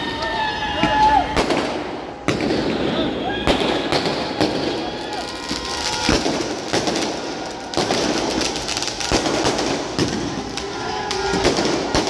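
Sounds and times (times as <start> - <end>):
fireworks bangs and crackles: 0.1 - 12.0.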